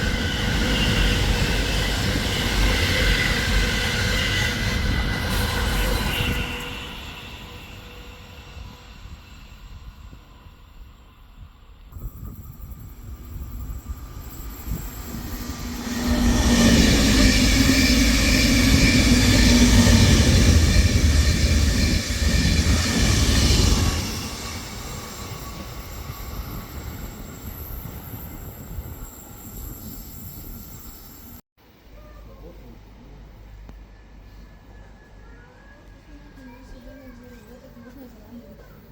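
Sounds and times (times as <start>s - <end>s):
train passing: 0.0s - 32.1s, 32.7s - 38.9s.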